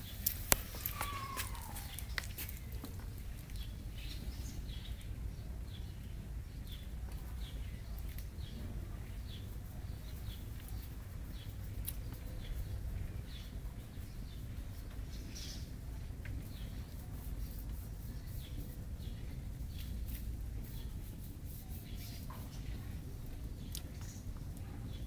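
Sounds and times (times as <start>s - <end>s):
sparrows chirping: 0.0s - 25.0s.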